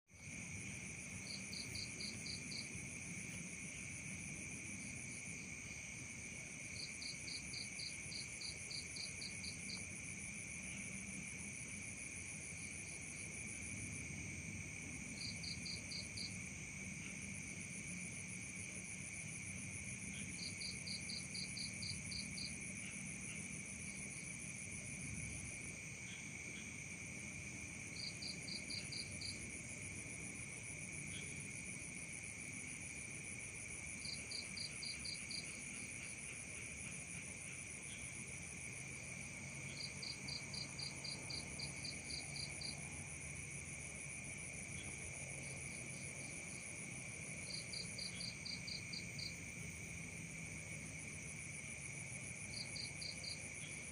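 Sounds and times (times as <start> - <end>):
rapid pulsed insect chirp: 0.1 - 53.9
insects trilling: 0.2 - 53.9.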